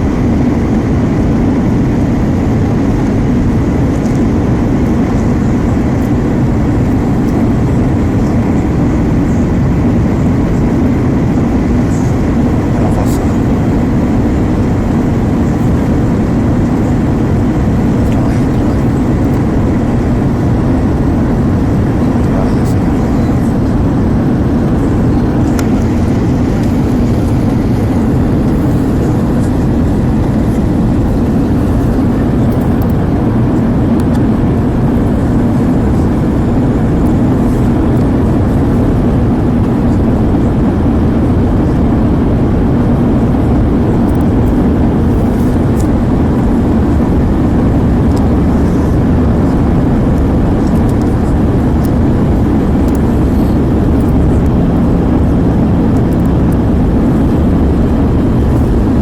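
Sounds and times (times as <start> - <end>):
airflow in cabin: 0.0 - 59.0
jet engines rumbling: 0.0 - 59.0.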